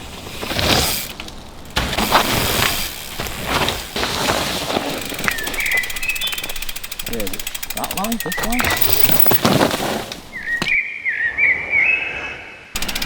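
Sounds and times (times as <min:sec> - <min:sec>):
bike rattling and knocking: 0:00.0 - 0:10.8, 0:12.8 - 0:13.0
bike tyres rushing on dirt: 0:00.0 - 0:10.8, 0:12.8 - 0:13.0.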